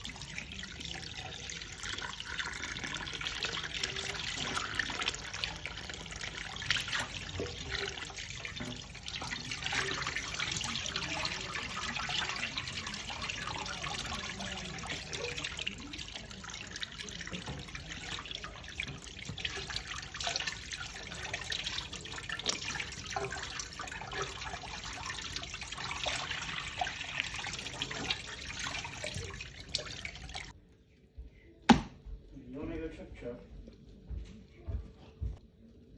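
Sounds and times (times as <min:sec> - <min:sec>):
tap water running into sink: 0:00.0 - 0:30.5.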